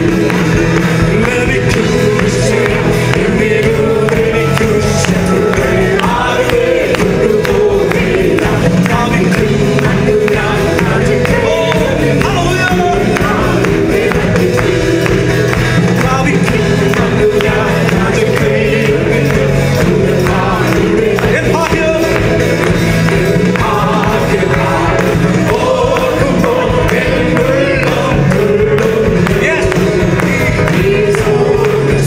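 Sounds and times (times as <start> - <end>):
group singing a worship song: 0.0 - 32.0
keyboard: 0.0 - 32.0
steady percussion beat: 0.0 - 32.0.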